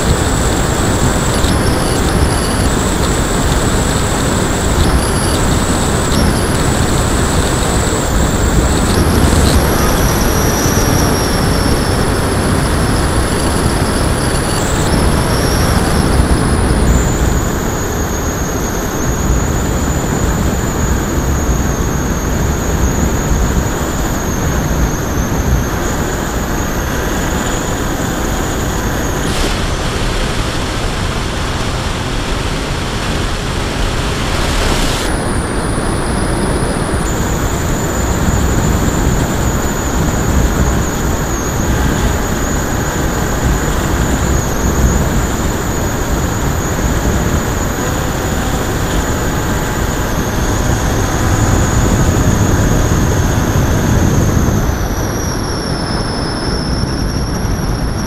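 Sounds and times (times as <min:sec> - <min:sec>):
electric motor and propeller whine: 0:00.0 - 0:58.0
wind rushing over microphone: 0:00.0 - 0:58.0.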